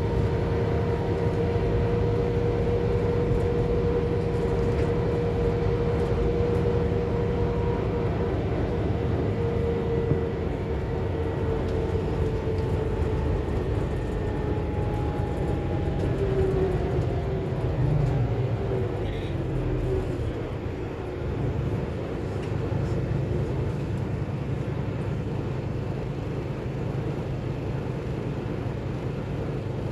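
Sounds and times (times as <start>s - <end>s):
bus engine and road rumble: 0.0s - 29.9s
drivetrain whine: 0.0s - 29.9s.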